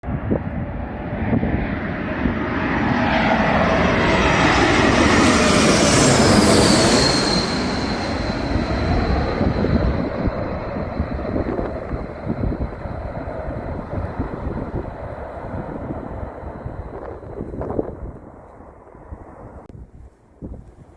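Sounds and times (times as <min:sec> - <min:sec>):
jet engines roaring and whining: 0:00.1 - 0:19.5.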